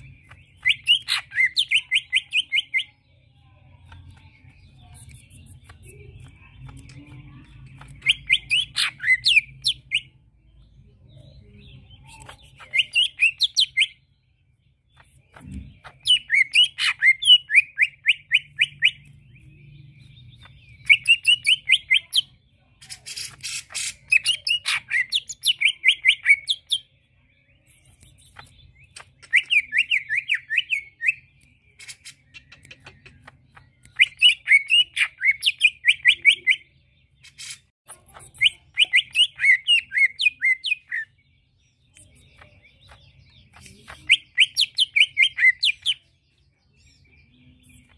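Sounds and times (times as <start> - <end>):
bird singing chattering notes: 0.0 - 47.9.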